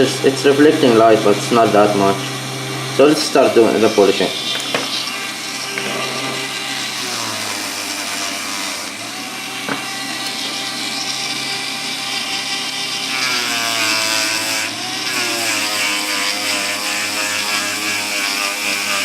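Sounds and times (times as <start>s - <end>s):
rotary tool whine polishing: 0.0s - 19.0s.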